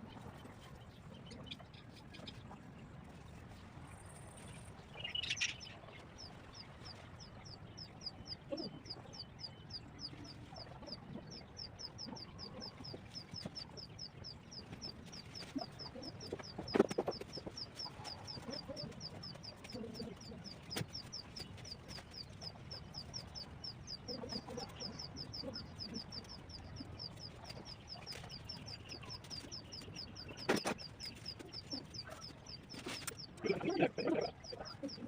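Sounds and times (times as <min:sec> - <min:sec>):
birds chirping rapidly: 0:04.9 - 0:35.0.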